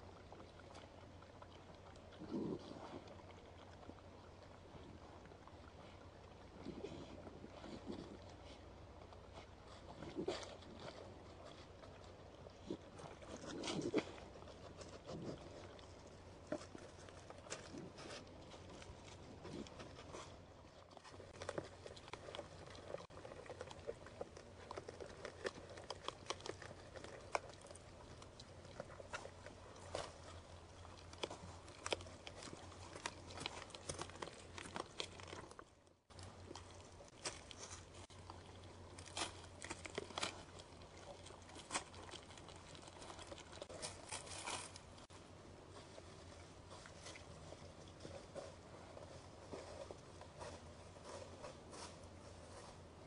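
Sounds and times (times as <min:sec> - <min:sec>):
deer chewing: 0:00.0 - 0:53.0
low steady hum: 0:00.0 - 0:53.0.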